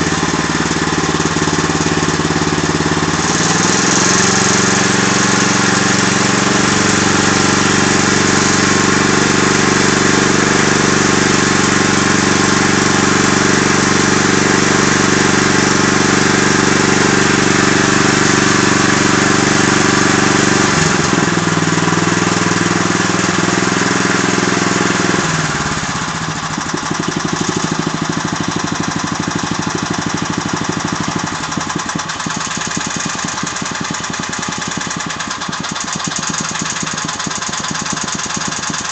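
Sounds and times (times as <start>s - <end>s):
petrol engine running with knock: 0.0s - 38.9s.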